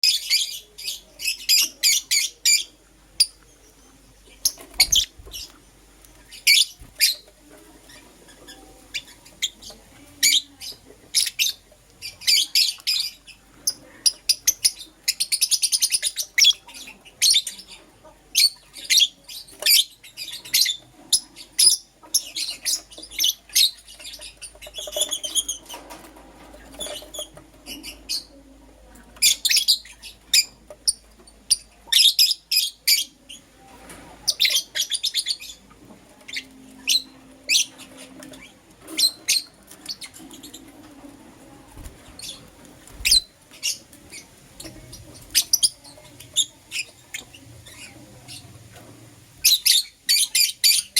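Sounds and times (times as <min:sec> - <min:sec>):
lovebirds chirping: 0:00.0 - 0:26.0, 0:26.6 - 0:33.5, 0:34.2 - 0:48.8, 0:49.4 - 0:50.9.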